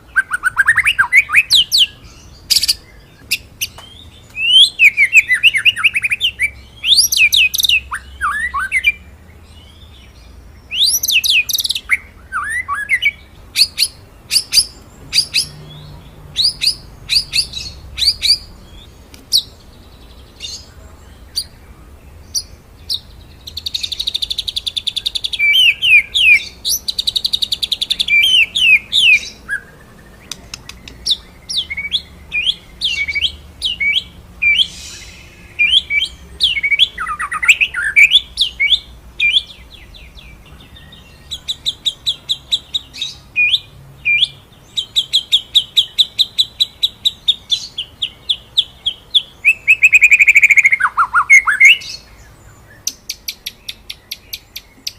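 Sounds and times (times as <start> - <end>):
bird singing trills and whistles: 0.0 - 54.9.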